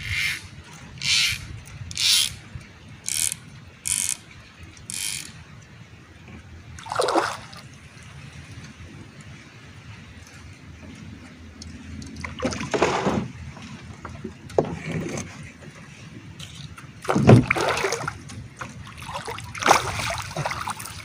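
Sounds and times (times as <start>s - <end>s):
water splashes: 3.7s - 21.0s.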